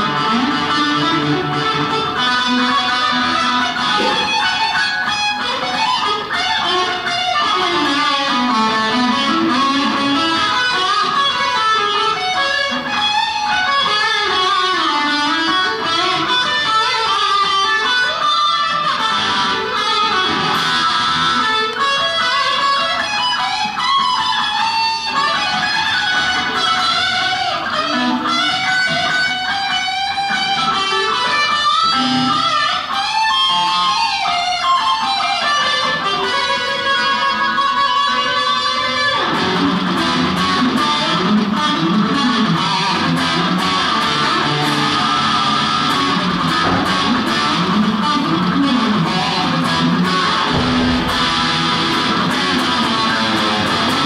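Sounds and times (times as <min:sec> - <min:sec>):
electric guitar playing fast notes: 0:00.0 - 0:54.0.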